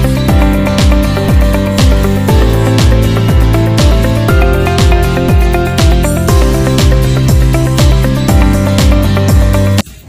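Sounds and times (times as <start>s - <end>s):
kick drum: 0.0s - 9.8s
upbeat electronic music: 0.0s - 10.0s.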